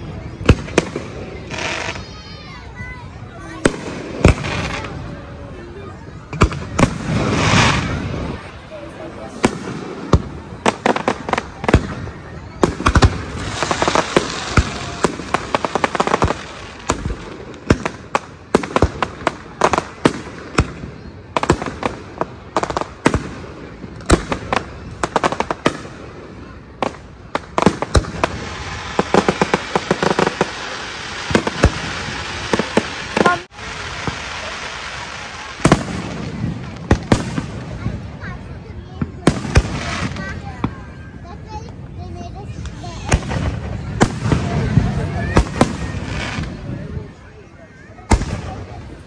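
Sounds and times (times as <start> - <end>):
fireworks bangs and cracks: 0.0 - 49.0
fireworks crackling: 0.0 - 49.0.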